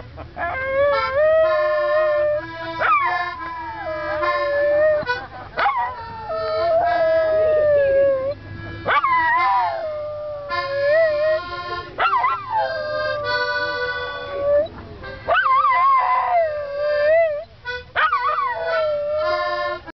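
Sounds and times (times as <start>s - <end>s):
music with held notes: 0.0s - 19.9s
dog howling: 0.4s - 5.0s, 5.6s - 14.7s, 15.3s - 19.8s.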